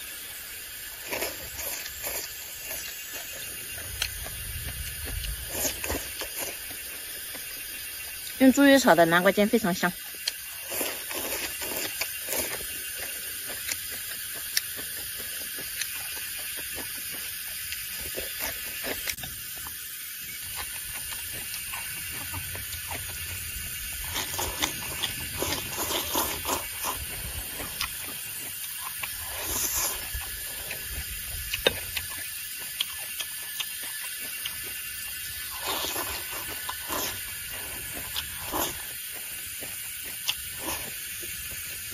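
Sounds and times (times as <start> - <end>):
person chewing food: 0.0 - 8.4, 10.0 - 41.9.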